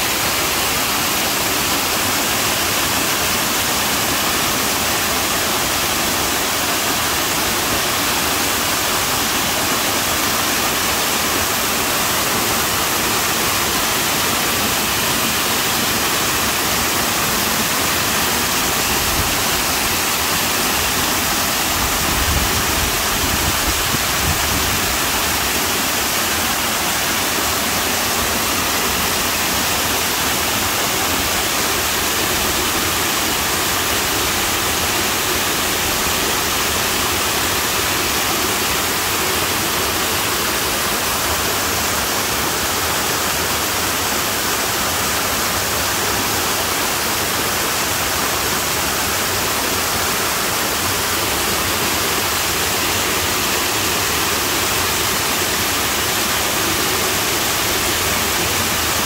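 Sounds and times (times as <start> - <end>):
waterfall splashing into pool: 0.0 - 59.0.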